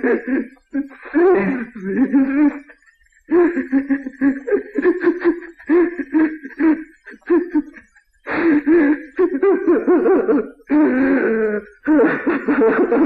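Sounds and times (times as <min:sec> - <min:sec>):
man sobbing: 0:00.0 - 0:13.0.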